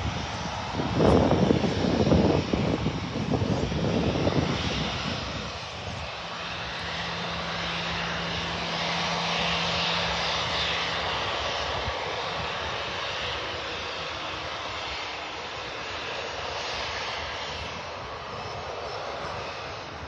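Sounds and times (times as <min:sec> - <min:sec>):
jet engines running: 0:00.0 - 0:20.0
wind rumble on microphone: 0:00.0 - 0:20.0.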